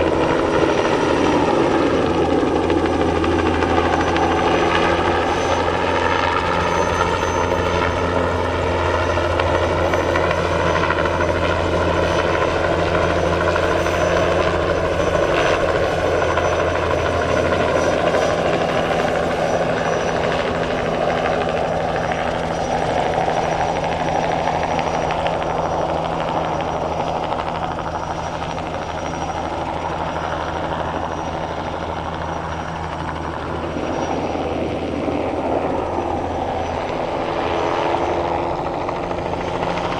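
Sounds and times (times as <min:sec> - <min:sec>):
helicopter flying: 0:00.0 - 0:39.9.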